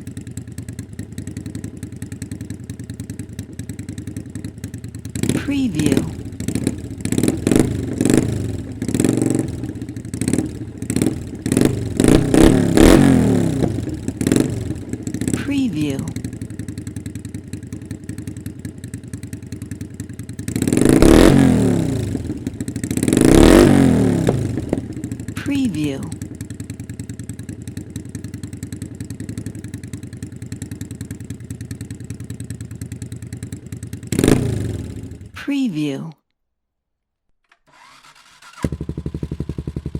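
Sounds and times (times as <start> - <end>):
motorcycle engine revving: 0.0 - 35.4, 37.7 - 39.9.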